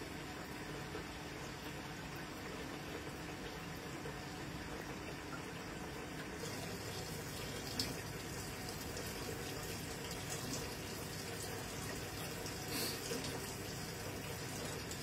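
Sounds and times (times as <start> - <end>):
water pouring into washing machine: 0.0 - 15.0.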